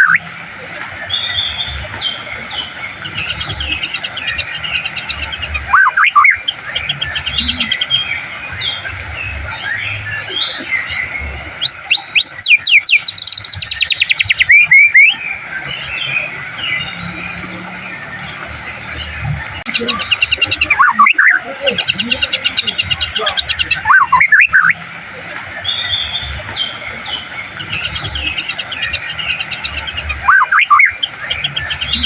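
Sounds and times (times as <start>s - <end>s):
bird whistled song: 0.0s - 32.0s.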